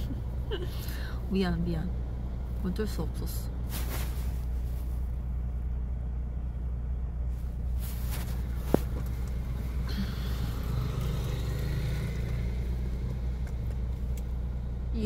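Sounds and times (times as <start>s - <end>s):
car rumble from inside cabin: 0.0s - 15.0s.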